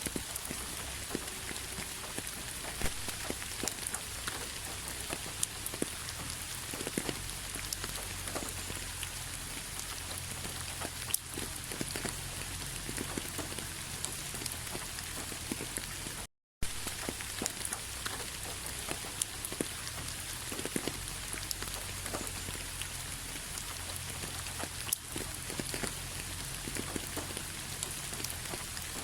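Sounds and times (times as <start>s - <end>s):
sharp raindrop ticks: 0.0s - 29.0s
steady rainfall: 0.0s - 29.0s.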